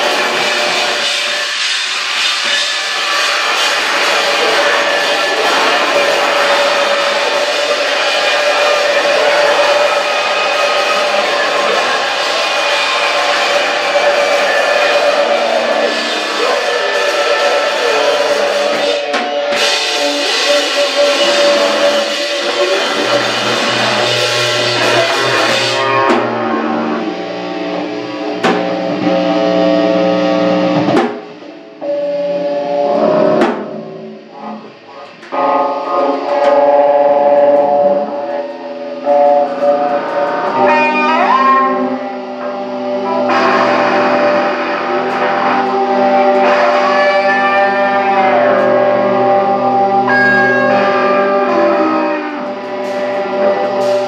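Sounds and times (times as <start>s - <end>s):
guitar notes sliding in pitch: 0.0s - 54.0s
rock band playing: 0.0s - 54.0s.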